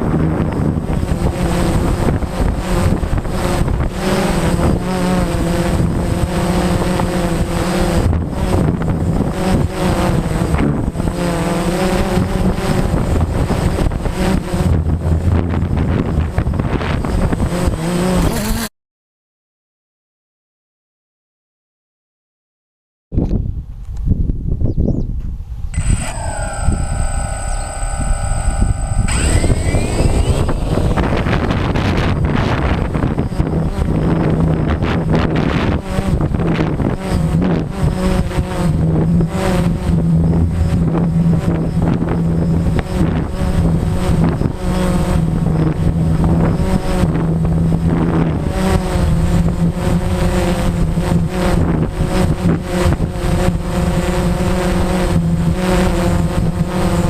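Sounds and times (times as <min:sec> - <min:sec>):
wind buffeting microphone: 0:00.0 - 0:18.4, 0:23.2 - 0:57.0
drone propellers whining: 0:00.0 - 0:18.6, 0:25.8 - 0:57.0.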